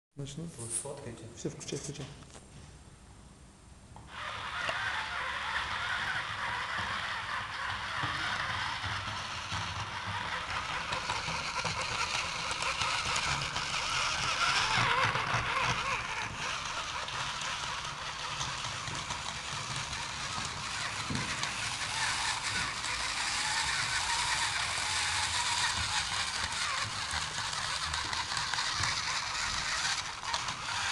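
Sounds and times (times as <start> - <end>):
electric motors and rubber tracks: 4.0 - 30.9.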